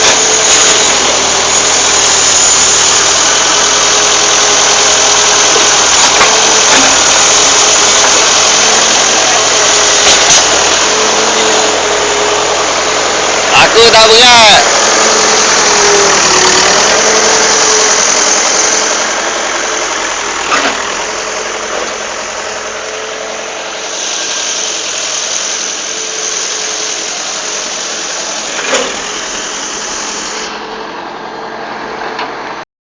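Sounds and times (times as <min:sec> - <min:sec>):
excavator diesel engine running: 0:00.0 - 0:32.6.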